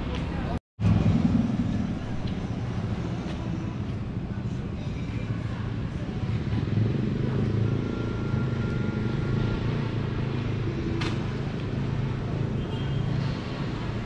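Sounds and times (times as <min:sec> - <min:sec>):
vehicle engines rumbling: 0:00.0 - 0:14.0.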